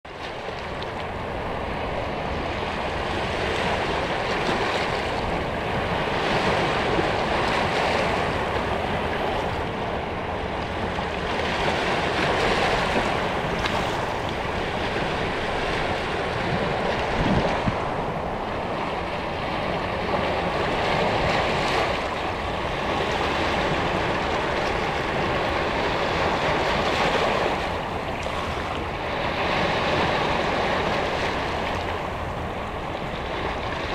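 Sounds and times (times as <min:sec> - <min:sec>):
waves lapping over rocks: 0:00.1 - 0:33.9.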